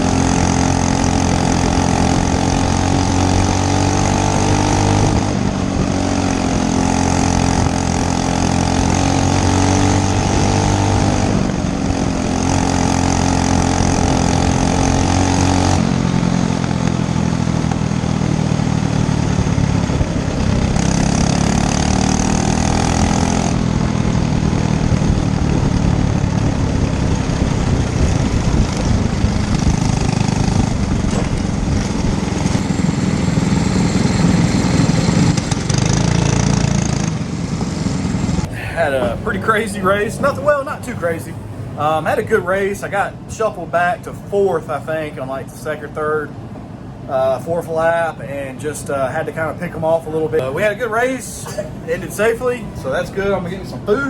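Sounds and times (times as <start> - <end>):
go-kart engine running hard: 0.0 - 43.4.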